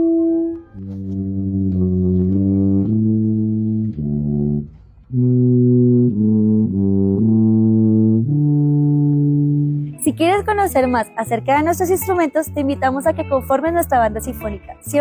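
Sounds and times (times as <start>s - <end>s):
low brass notes: 0.0s - 13.6s.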